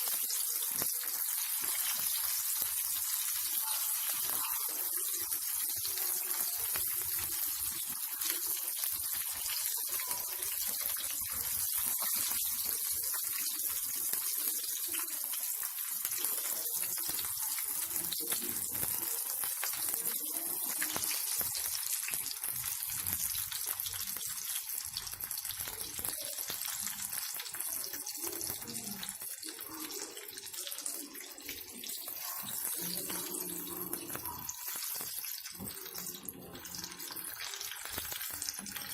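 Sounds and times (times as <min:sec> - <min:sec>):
patties sizzling in hot oil: 0:00.0 - 0:38.9.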